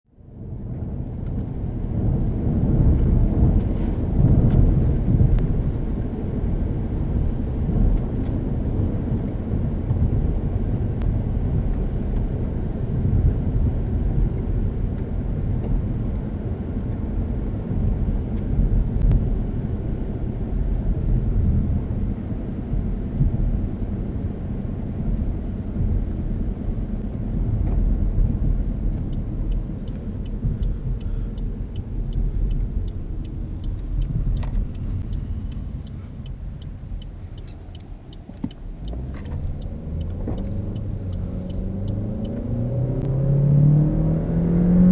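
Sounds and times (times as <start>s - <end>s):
car engine rumble: 0.1s - 44.9s
road noise: 0.1s - 44.9s.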